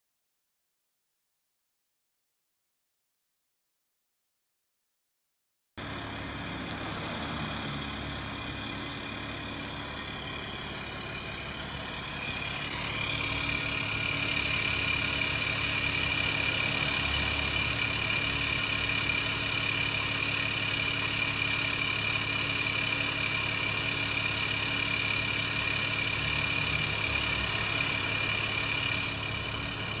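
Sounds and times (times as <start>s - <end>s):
diesel engine idling: 5.8s - 30.0s
high whine: 5.8s - 30.0s.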